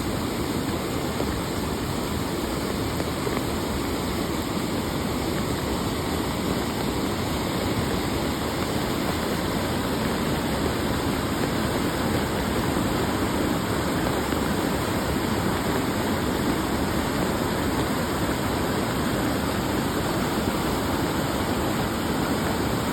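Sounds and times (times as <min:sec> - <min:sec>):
flood water rushing: 0:00.0 - 0:22.9.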